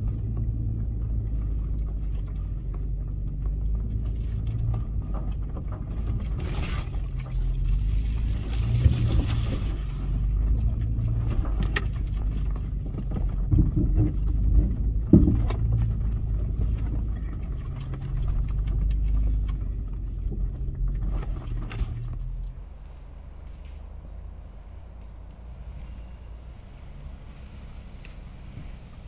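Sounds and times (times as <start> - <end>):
vehicle engine running at low revs: 0.0 - 29.0.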